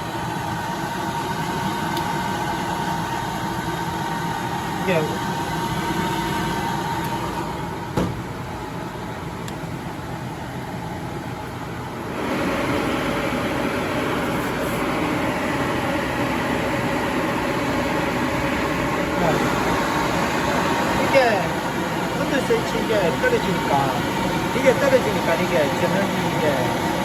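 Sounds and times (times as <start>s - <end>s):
dryer machine running: 0.0s - 27.0s.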